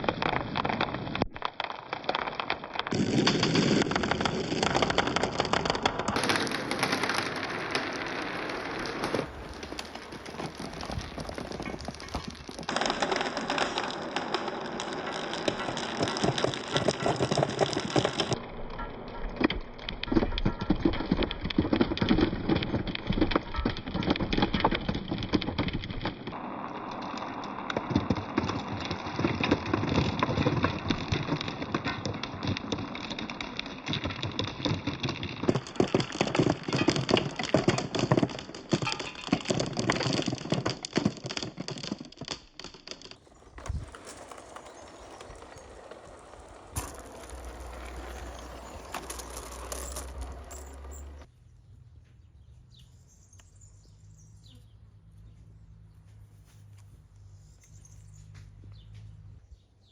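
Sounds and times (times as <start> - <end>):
marbles rolling and clacking: 0.0 - 51.3.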